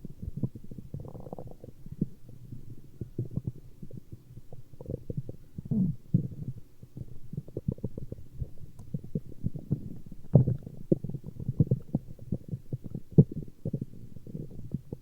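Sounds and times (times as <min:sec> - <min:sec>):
stomach growling and gurgling: 0:00.0 - 0:15.0.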